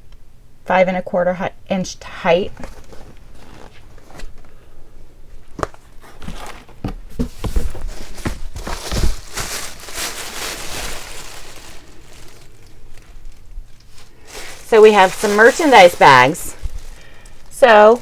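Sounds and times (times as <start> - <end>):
plastic packaging crinkling: 2.5 - 4.7, 5.4 - 18.0.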